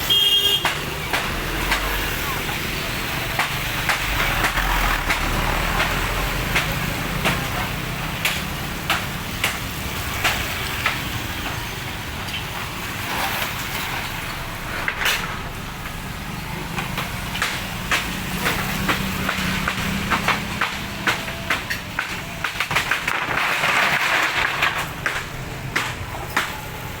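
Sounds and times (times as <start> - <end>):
market stalls snapping and knocking: 0.0 - 27.0.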